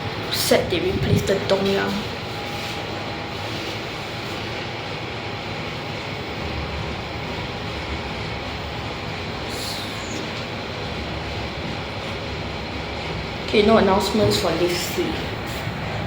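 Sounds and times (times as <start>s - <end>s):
lift rumble and hum: 0.0s - 16.0s.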